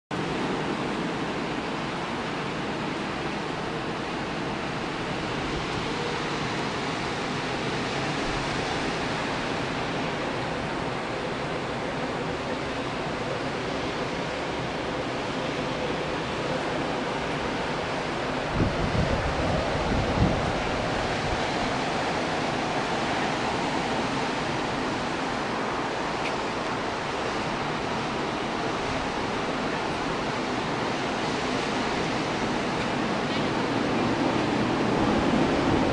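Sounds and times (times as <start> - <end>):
ocean waves breaking on sand: 0.1 - 35.9
wind buffeting microphone: 0.2 - 35.9.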